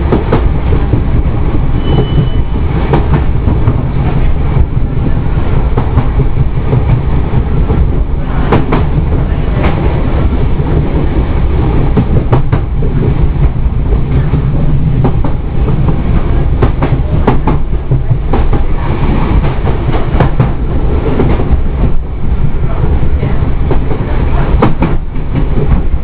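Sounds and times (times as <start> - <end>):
train low rumble: 0.0 - 26.0.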